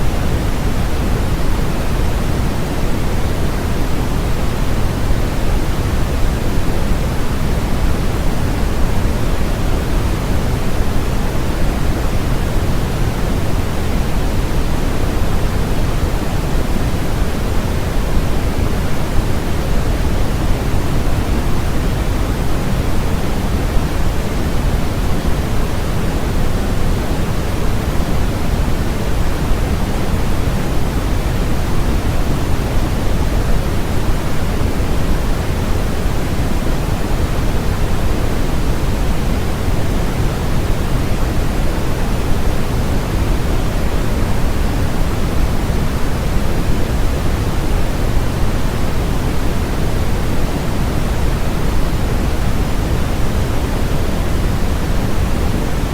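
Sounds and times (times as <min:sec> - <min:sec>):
synthetic noise hiss and rumble: 0:00.0 - 0:55.9.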